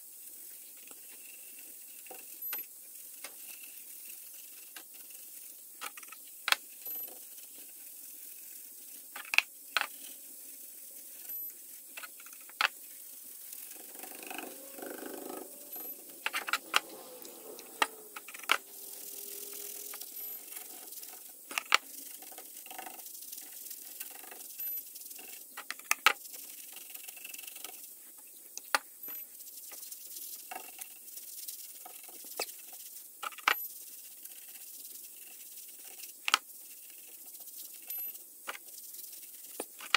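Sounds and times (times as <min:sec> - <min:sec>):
low steady hiss: 0:00.0 - 0:39.9.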